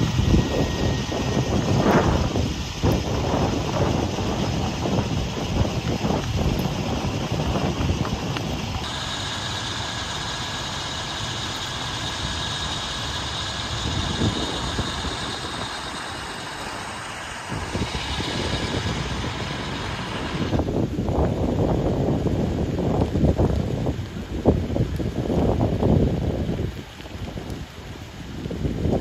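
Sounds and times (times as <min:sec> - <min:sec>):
engine drone with high whine: 0:00.0 - 0:29.0
wind buffeting microphone: 0:00.0 - 0:29.0.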